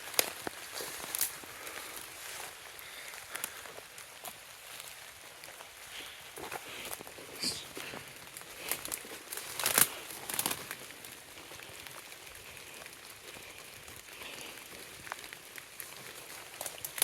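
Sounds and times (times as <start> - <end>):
footsteps crunching on loose ground: 0.0 - 17.0
sharp crackles: 0.0 - 17.0.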